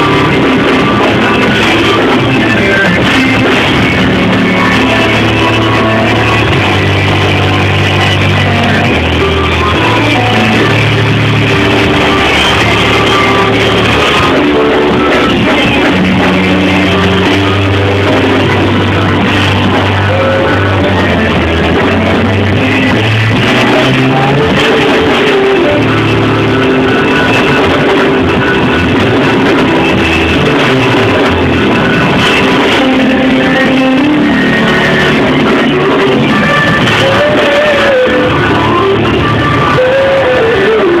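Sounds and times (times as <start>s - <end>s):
held bass notes: 0.0s - 41.0s
loud band music: 0.0s - 41.0s.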